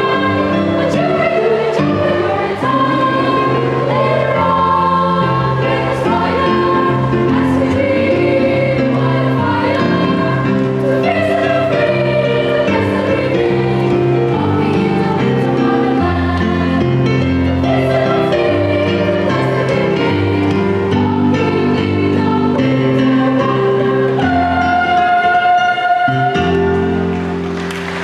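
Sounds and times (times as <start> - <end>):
children's choir singing: 0.0 - 28.0
musical accompaniment: 0.0 - 28.0.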